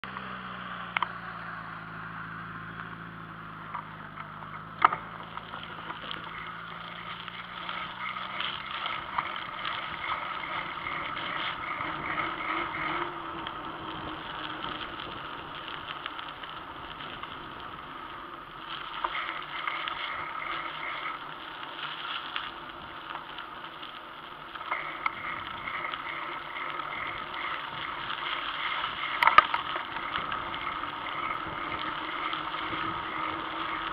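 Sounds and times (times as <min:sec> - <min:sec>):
bicycle tyre noise on pavement: 0:00.0 - 0:33.9.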